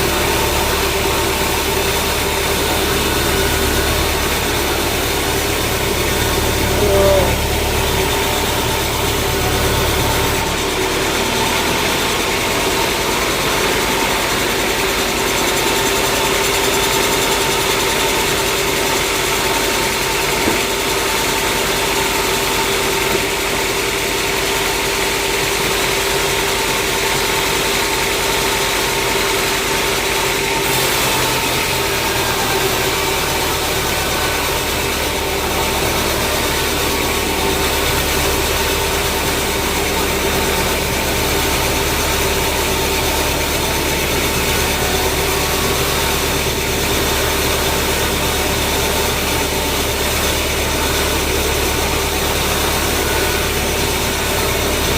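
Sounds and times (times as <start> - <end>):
engine running with hum: 0.0 - 54.9.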